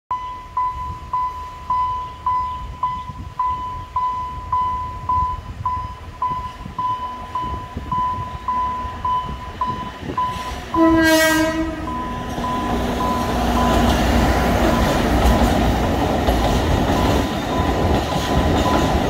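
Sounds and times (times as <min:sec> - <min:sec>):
level crossing warning bell: 0:00.1 - 0:15.1, 0:16.9 - 0:19.0.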